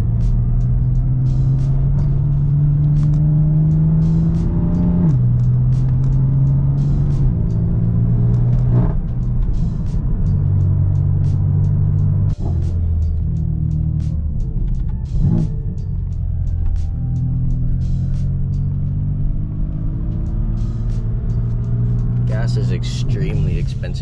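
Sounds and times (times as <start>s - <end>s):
background music with beat: 0.0s - 24.0s
car engine drone: 0.0s - 24.0s.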